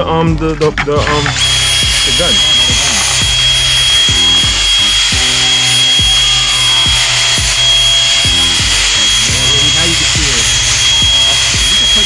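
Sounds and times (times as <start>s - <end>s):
electric drill whining: 1.0s - 12.0s.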